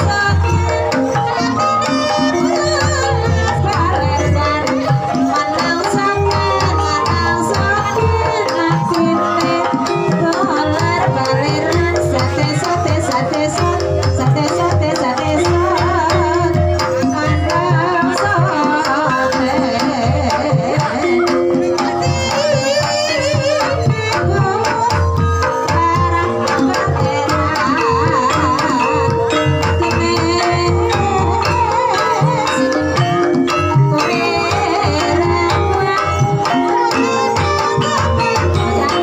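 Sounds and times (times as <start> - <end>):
hand drum driving pattern: 0.0 - 39.0
person singing: 0.0 - 39.0.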